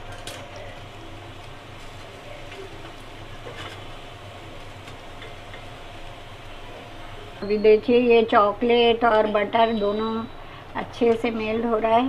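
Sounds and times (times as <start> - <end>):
gas stove hiss and hum: 0.0 - 12.0.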